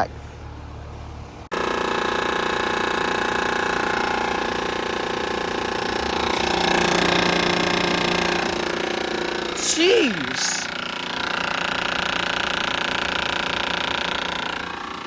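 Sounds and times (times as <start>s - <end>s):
heat pump rattling buzz: 0.4s - 15.0s.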